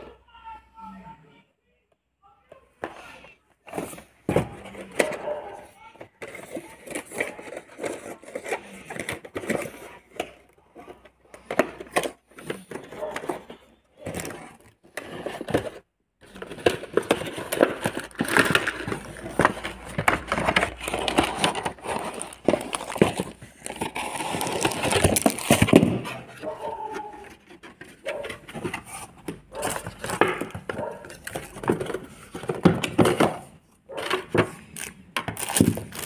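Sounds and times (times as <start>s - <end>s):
cardboard and paper rustling: 2.8s - 36.0s.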